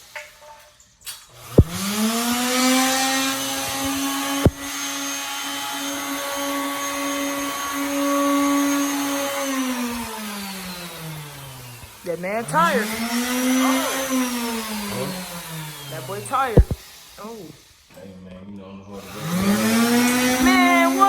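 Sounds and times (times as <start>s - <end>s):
power sander motor whining: 1.4s - 17.8s, 19.0s - 21.0s.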